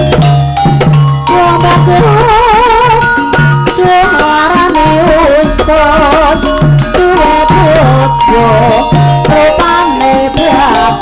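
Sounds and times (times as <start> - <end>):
hand drums beating: 0.0 - 11.0
wavering melody with vibrato: 0.0 - 11.0.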